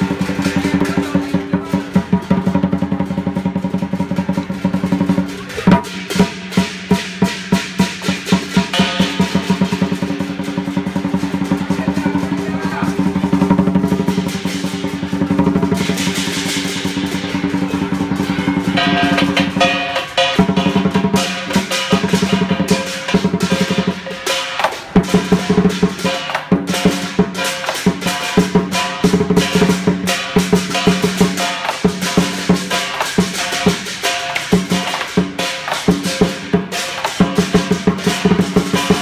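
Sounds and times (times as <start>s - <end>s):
barrel drum rolls: 0.0s - 39.0s
hand cymbals clashing: 0.0s - 39.0s.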